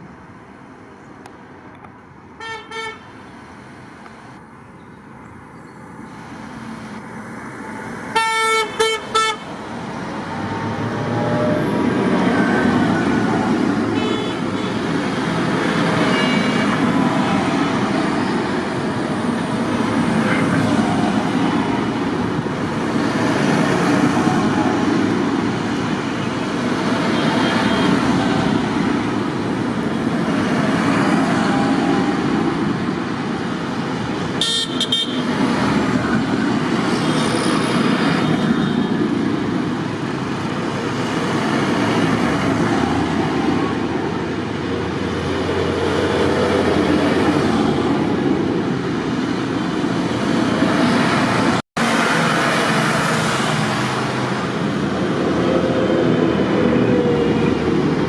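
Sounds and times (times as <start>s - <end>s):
tractor engines running: 6.1s - 58.0s.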